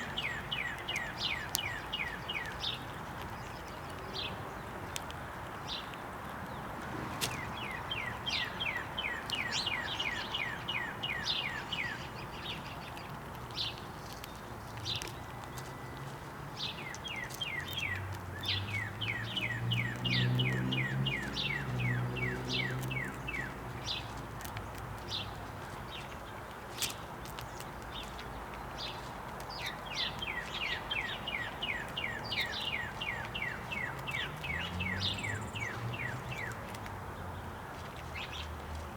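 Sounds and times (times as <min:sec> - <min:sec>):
songbird singing slurred notes: 0:00.0 - 0:04.7, 0:05.7 - 0:26.4, 0:27.5 - 0:38.9.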